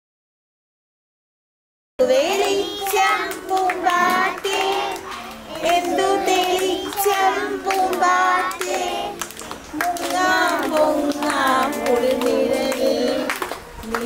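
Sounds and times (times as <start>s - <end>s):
young children singing: 2.0s - 14.0s.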